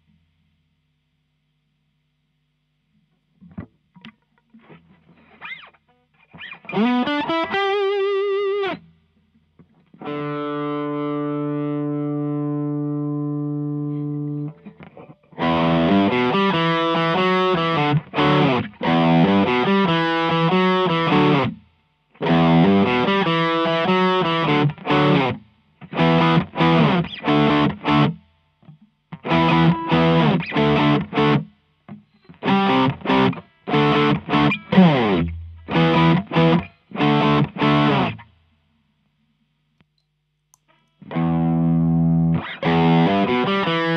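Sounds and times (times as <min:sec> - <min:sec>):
overdriven electric guitar: 0:03.3 - 0:38.4, 0:40.6 - 0:43.9.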